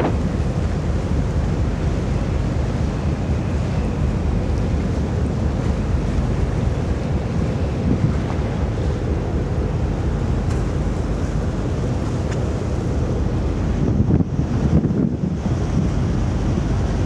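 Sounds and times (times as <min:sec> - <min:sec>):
ferry engine rumble: 0:00.0 - 0:17.0
water wash along ship: 0:00.0 - 0:17.0
wind buffeting microphone: 0:00.0 - 0:17.0.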